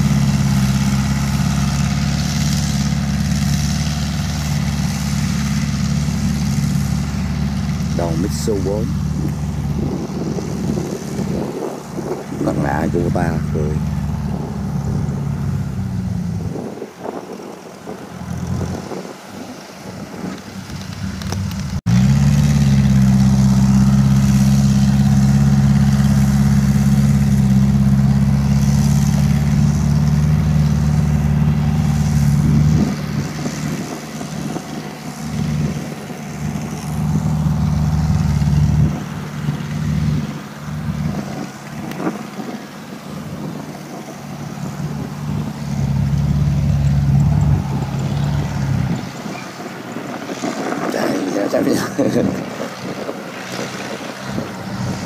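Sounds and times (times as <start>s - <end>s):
tracked cart engine running: 0.0s - 55.0s.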